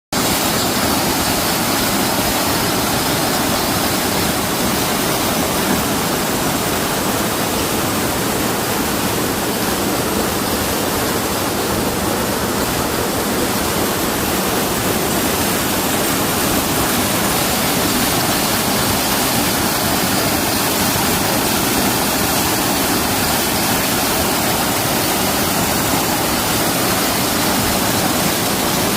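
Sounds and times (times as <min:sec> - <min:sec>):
waterfall pouring: 0:00.2 - 0:28.9.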